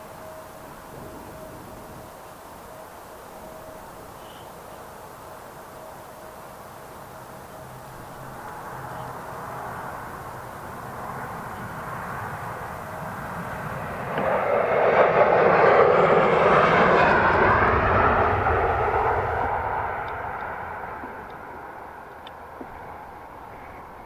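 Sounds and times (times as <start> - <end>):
jet engines passing close by: 0.0 - 24.0.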